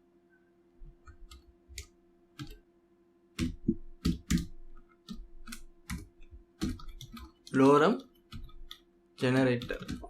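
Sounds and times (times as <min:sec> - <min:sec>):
faint electrical hum: 0:00.0 - 0:10.0
keyboard keystrokes: 0:01.0 - 0:02.6, 0:03.4 - 0:10.0.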